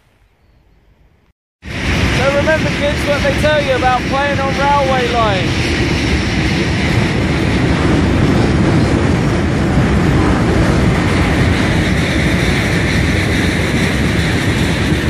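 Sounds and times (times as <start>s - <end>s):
freight train rumbling by: 1.6s - 15.0s.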